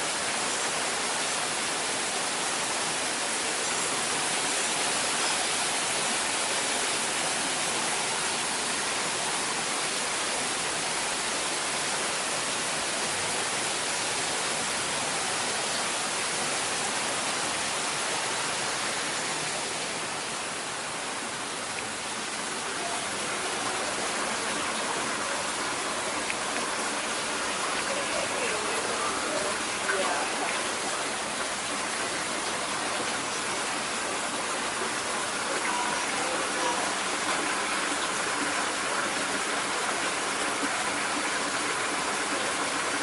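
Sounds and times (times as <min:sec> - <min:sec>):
falling water rushing: 0:00.0 - 0:43.0.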